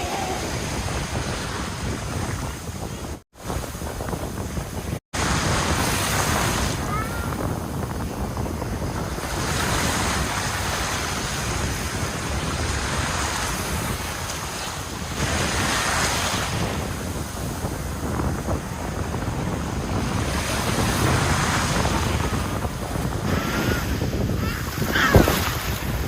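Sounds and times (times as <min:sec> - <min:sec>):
sea surf washing up beach: 0:00.0 - 0:26.0
wind buffeting microphone: 0:00.0 - 0:26.0.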